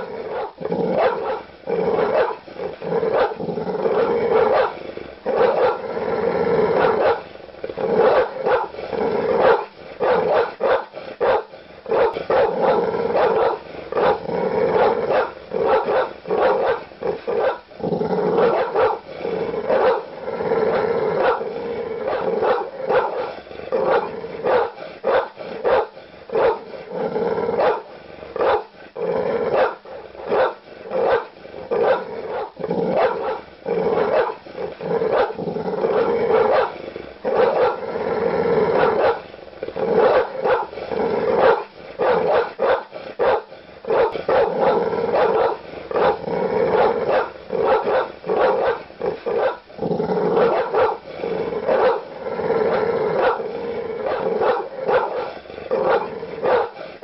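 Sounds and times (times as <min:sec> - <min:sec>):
large dog barking aggressively: 0:00.0 - 0:57.0.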